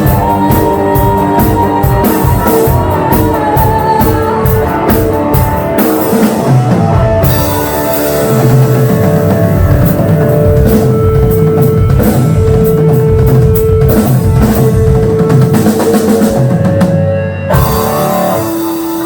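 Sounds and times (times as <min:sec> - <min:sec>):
drum kit beating: 0:00.0 - 0:19.0
electric guitar long notes: 0:00.0 - 0:19.0.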